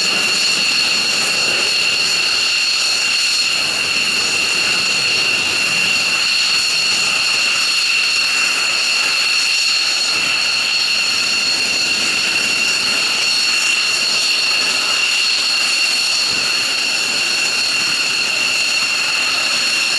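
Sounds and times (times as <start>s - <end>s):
jet engines idling: 0.0s - 19.9s.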